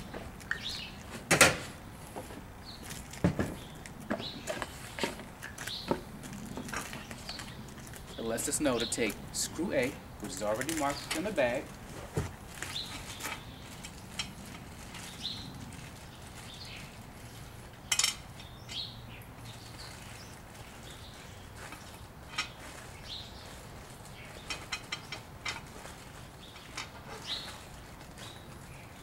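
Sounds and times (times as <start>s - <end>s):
clicks and rustles of handled parts: 2.2s - 8.2s, 10.2s - 18.8s, 19.5s - 29.0s.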